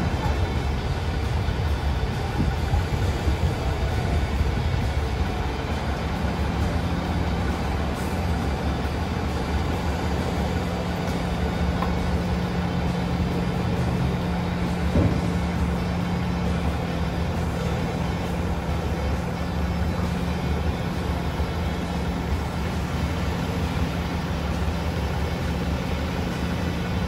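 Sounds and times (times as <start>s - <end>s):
excavator diesel engine rumbling: 0.0s - 27.0s
steady hum: 0.0s - 27.0s.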